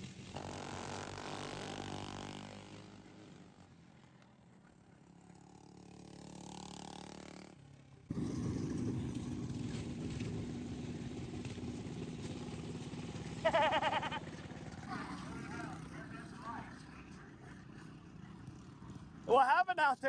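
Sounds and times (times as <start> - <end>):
racing lawnmower engines running: 0.0 - 19.3.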